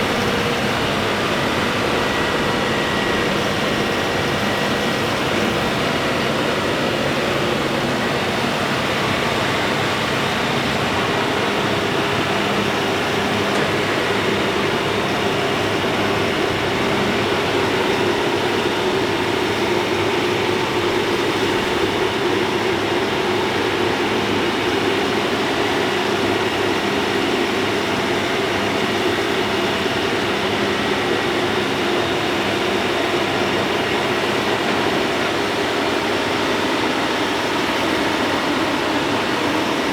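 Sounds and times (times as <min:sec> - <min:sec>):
tractor engine from inside cab: 0:00.0 - 0:39.9.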